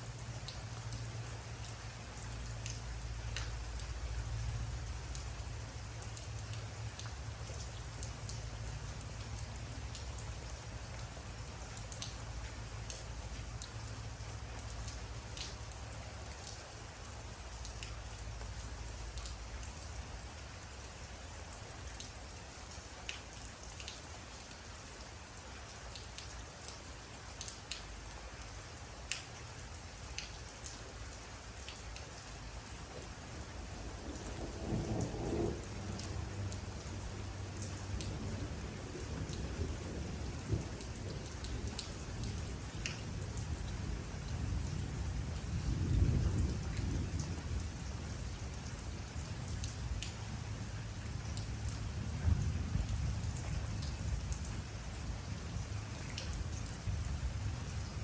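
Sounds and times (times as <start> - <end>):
raindrops ticking close by: 0.0 - 58.0
steady rain falling: 0.0 - 58.0.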